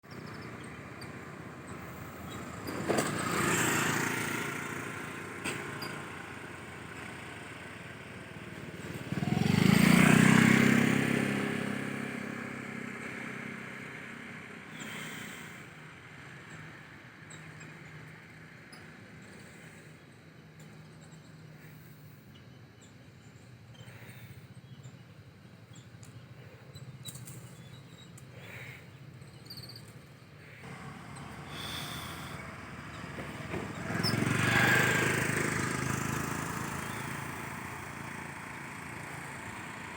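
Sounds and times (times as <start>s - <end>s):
motor vehicles passing: 0.0s - 22.4s, 23.1s - 39.9s.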